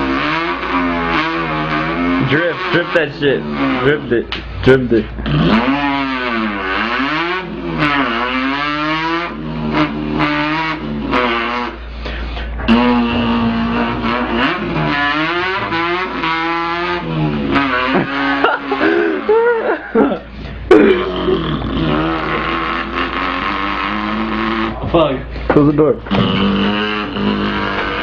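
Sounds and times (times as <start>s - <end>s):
man imitating car engine revving: 0.0s - 28.0s.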